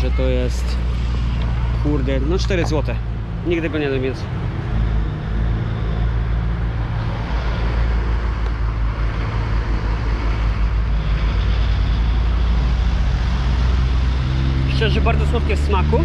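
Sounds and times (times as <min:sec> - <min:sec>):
traffic noise: 0:00.0 - 0:16.0
vehicle engine humming: 0:00.0 - 0:16.0.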